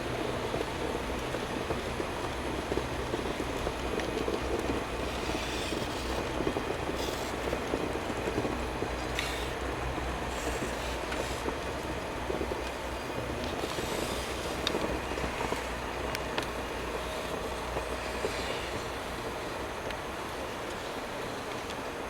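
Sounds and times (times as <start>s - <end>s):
rail grinding machine grinding: 0.0s - 22.0s.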